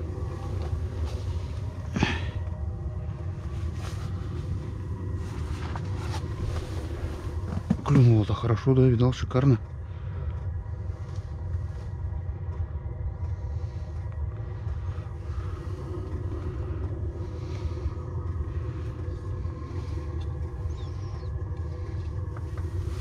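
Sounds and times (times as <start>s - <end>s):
constant hum of even tones: 0.0s - 23.0s
low motor rumble: 0.0s - 23.0s.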